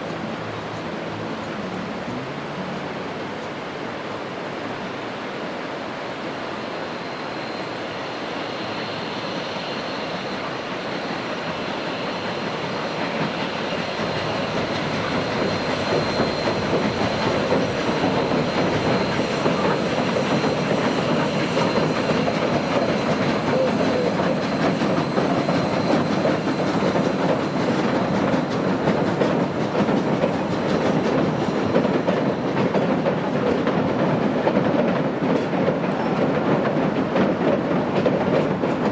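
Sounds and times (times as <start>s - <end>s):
train wheels clacking on rails: 7.7s - 38.9s.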